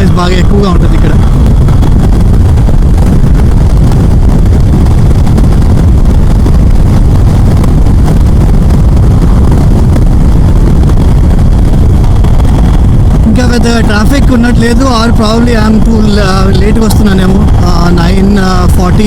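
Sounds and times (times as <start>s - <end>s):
wind rush on microphone: 0.0s - 19.0s.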